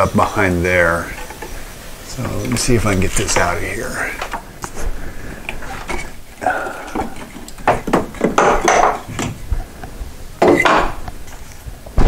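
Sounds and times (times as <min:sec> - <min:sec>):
wooden knocks and scrapes: 0:02.2 - 0:12.0.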